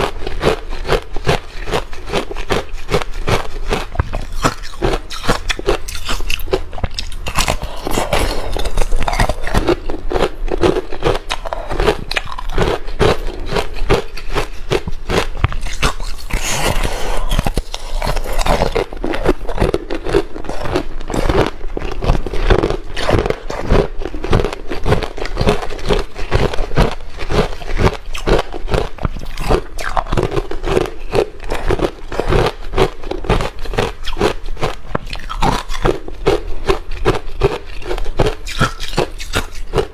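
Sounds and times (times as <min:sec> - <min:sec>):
chewing ice crunching: 0:00.0 - 0:39.9.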